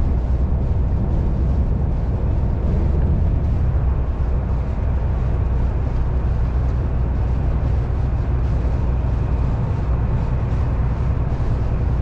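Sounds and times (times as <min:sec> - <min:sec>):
lorry engine drone: 0:00.0 - 0:12.0
road and tyre noise: 0:00.0 - 0:12.0.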